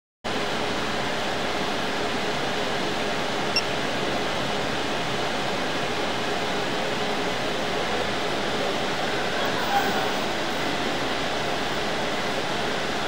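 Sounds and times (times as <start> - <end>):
steady machinery hiss: 0.3 - 13.0.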